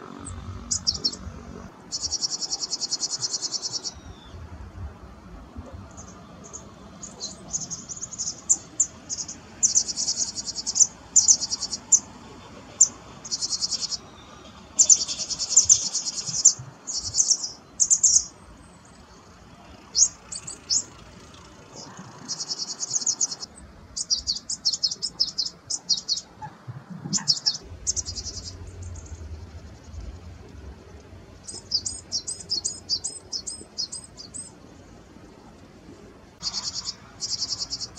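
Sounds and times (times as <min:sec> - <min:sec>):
buzzy bird trills: 0:00.0 - 0:04.4, 0:05.8 - 0:34.6, 0:36.4 - 0:37.9
songbird high chirps: 0:00.0 - 0:04.5, 0:05.6 - 0:35.0, 0:36.4 - 0:37.9.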